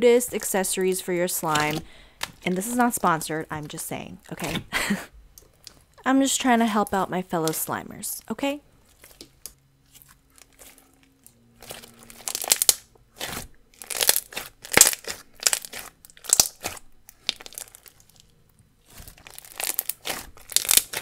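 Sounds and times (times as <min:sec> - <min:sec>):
slime crackling squishes: 0:00.2 - 0:04.6, 0:06.8 - 0:07.8, 0:08.8 - 0:21.0.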